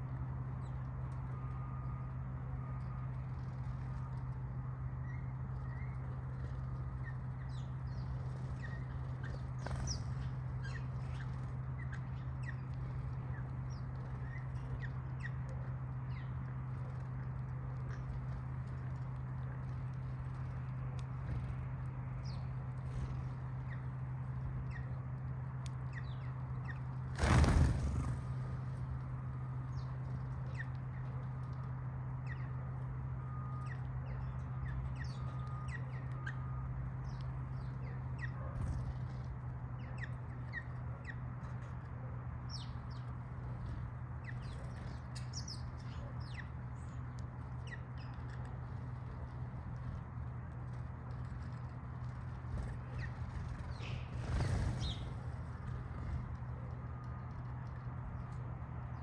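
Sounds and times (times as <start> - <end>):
sparrows chirping: 0.0 - 59.0
steady low hum: 0.0 - 59.0.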